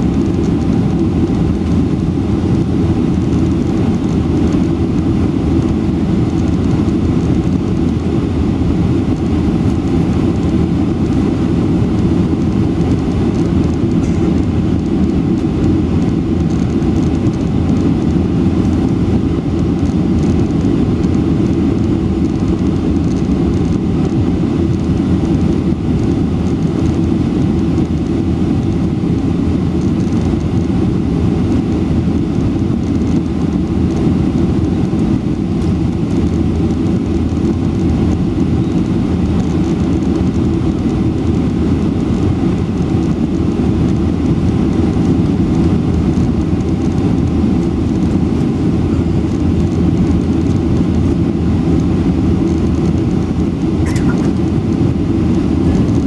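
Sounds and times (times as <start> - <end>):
airplane cabin engine rush: 0.0 - 56.0.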